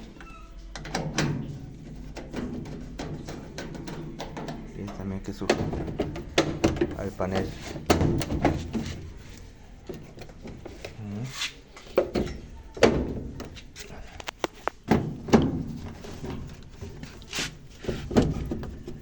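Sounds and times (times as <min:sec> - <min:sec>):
metal panel knocks and clunks: 0:00.7 - 0:10.9, 0:12.0 - 0:13.7, 0:14.8 - 0:17.1, 0:17.8 - 0:19.0.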